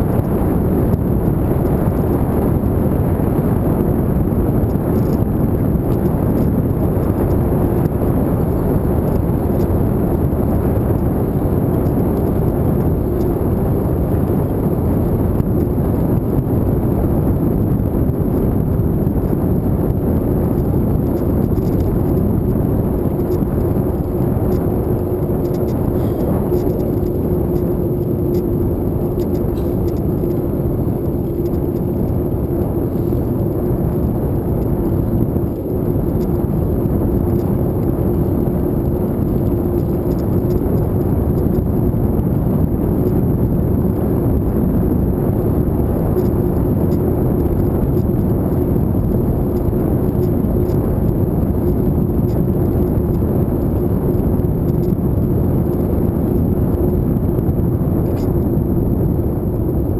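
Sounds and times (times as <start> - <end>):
bicycle tyres rolling on asphalt: 0.0 - 59.9
constant low hum: 0.0 - 59.9
wind buffeting microphone: 0.0 - 59.9.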